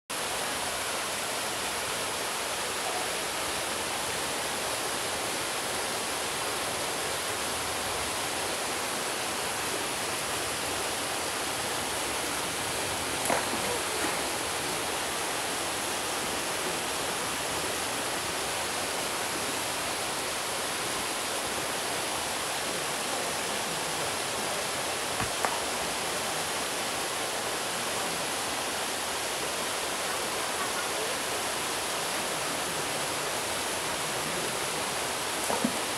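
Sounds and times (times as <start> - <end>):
waterfall splashing into pool: 0.1 - 35.9.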